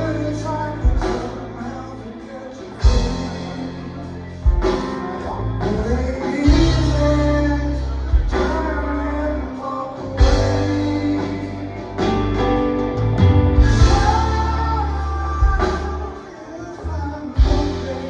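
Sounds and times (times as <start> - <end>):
lead singer: 0.0 - 18.0
rock band playing live: 0.0 - 18.0.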